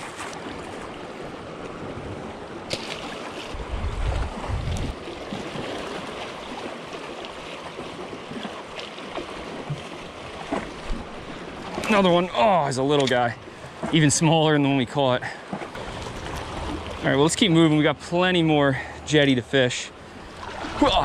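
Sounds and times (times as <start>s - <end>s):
small waves lapping against rocks: 0.0s - 17.8s.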